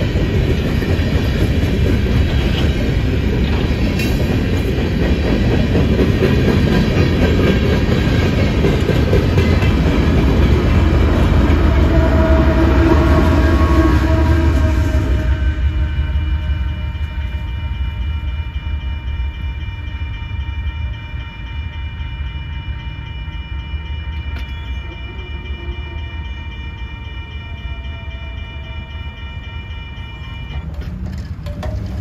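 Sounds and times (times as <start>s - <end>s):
crossing signal bell ringing: 0.0s - 31.9s
train cars rumbling on rails: 0.0s - 32.0s.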